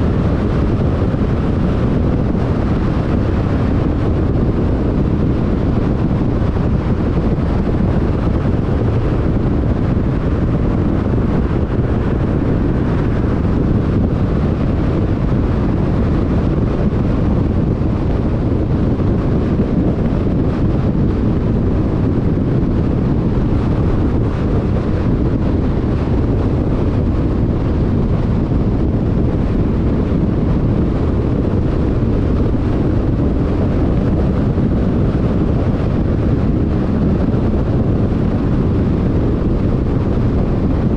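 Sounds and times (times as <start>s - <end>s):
tyre and wind road noise: 0.0s - 40.9s.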